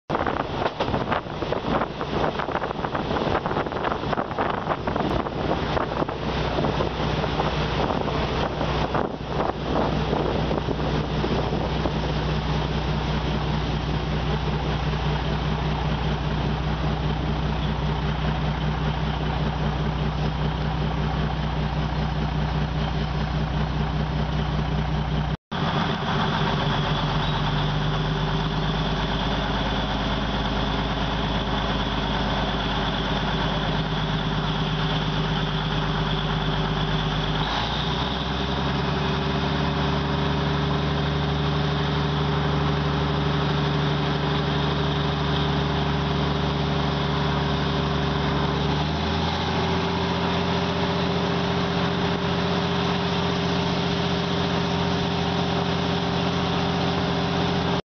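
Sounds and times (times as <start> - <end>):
train running noise: 0.1 - 52.3
train engine humming: 0.1 - 57.8.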